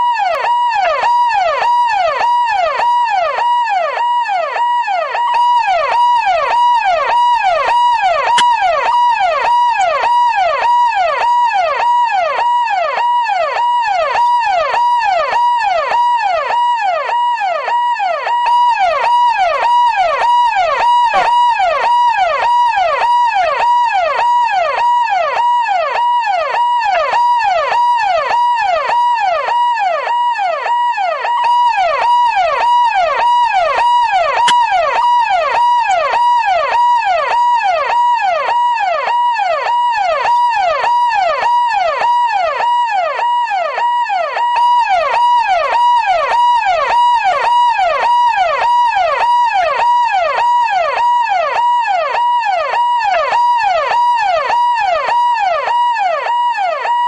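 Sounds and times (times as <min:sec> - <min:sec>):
police siren yelping: 0:00.0 - 0:57.0.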